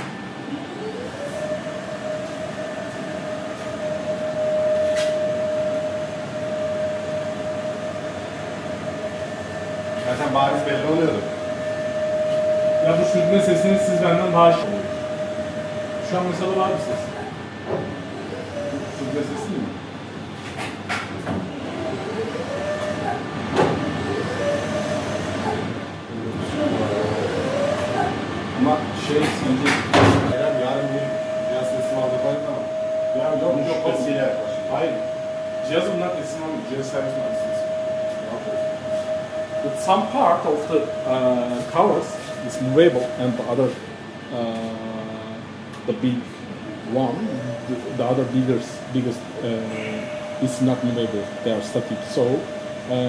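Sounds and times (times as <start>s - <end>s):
machine drive whine: 0.0s - 53.0s
mechanical hum: 0.0s - 53.0s.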